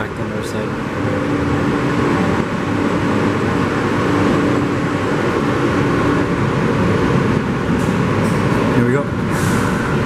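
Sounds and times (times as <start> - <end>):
subway train wheels rumbling: 0.0 - 10.0.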